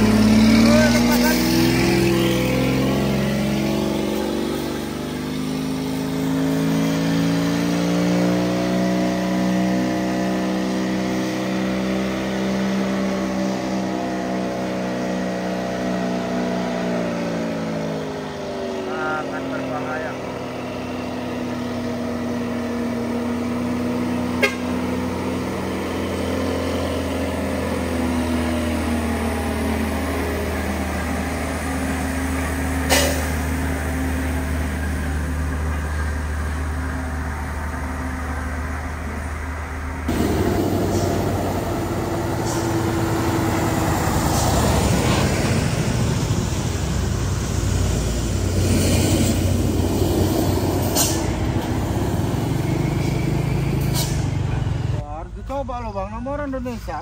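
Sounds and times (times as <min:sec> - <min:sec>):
road traffic: 0:00.0 - 0:57.0
truck diesel engine running: 0:00.0 - 0:57.0
truck passing: 0:00.0 - 0:57.0.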